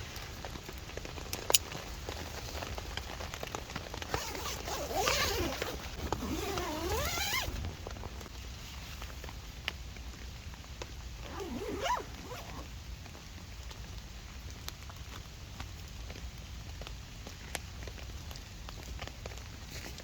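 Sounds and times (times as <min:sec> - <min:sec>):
rain pattering on a tarp: 0:00.0 - 0:20.0.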